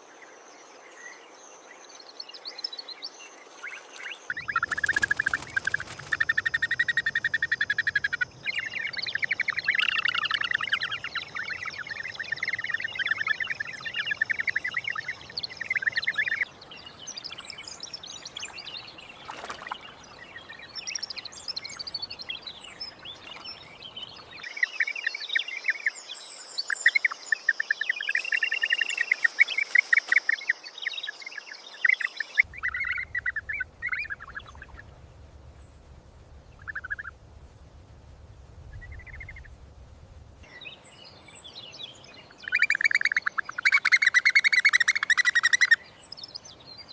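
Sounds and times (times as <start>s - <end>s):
outdoor ambience: 0.0s - 46.9s
small birds chirping: 0.7s - 46.9s.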